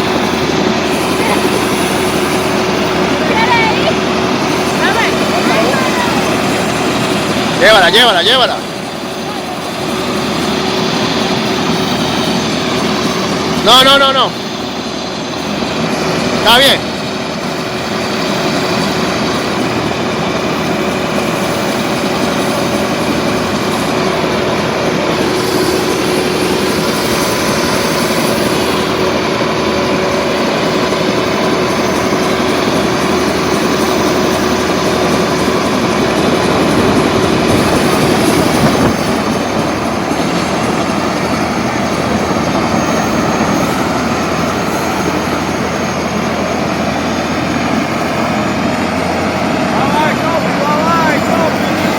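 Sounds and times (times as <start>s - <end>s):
helicopter rotor and engine: 0.0s - 51.9s.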